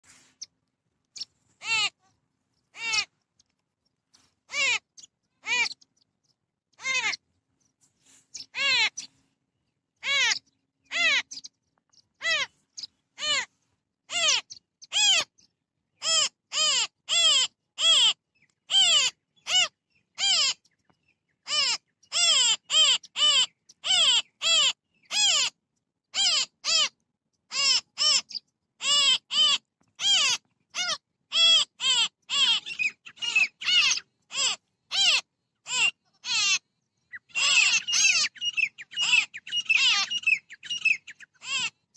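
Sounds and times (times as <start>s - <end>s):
birds calling: 0.0s - 41.9s.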